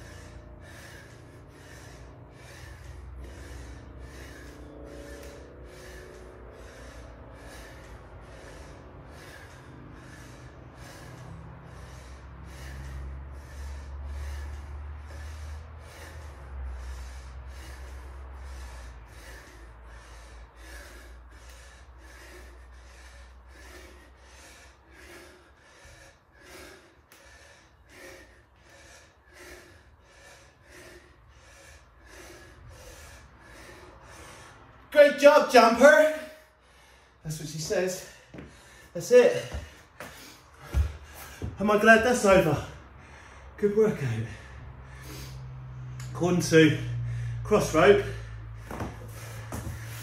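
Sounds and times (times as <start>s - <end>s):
low rumble: 0.0s - 34.9s, 36.4s - 50.0s
man panting: 0.0s - 50.0s.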